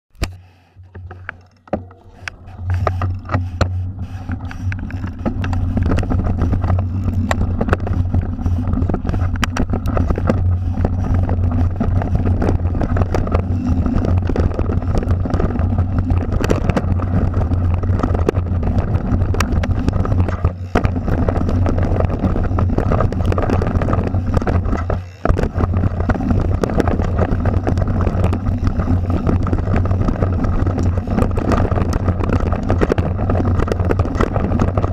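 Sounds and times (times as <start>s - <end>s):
bike knocks and rattles: 0.2s - 34.9s
wind rumble on microphone: 0.9s - 34.9s.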